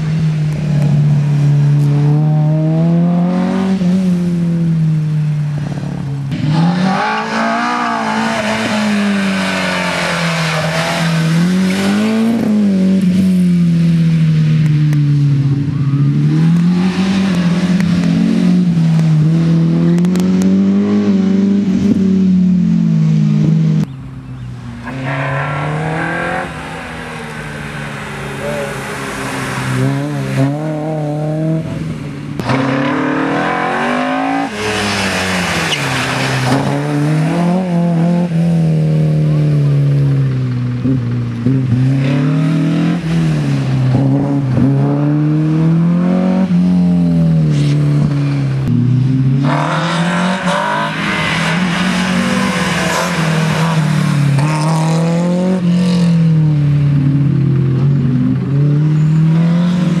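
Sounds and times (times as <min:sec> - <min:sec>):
race car engines revving: 0:00.0 - 1:00.0.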